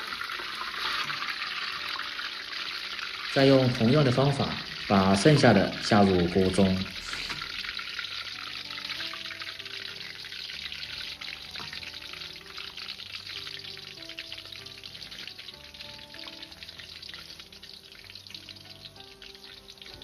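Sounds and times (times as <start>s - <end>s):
deep-frying crackling sizzle: 0.0s - 20.0s
soft background music: 0.0s - 20.0s.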